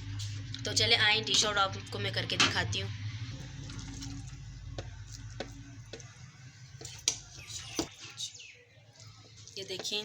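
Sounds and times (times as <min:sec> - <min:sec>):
low steady hum: 0:00.0 - 0:09.6.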